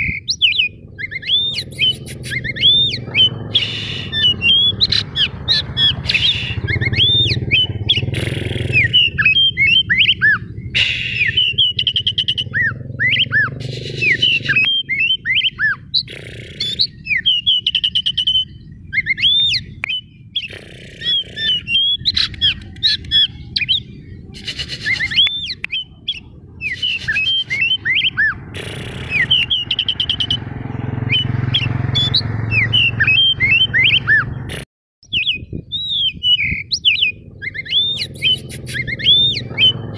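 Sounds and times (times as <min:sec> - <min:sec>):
bird singing whistled song: 0:00.0 - 0:28.4, 0:29.0 - 0:39.9.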